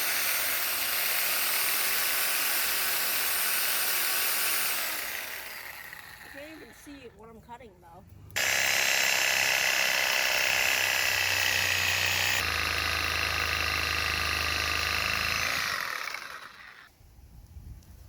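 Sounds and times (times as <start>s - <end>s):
power saw cutting root: 0.0s - 7.2s, 8.4s - 16.9s.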